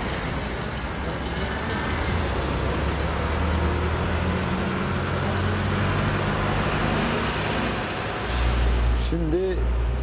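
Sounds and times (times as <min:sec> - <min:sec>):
road noise: 0:00.0 - 0:10.0
truck engine hum: 0:00.0 - 0:10.0.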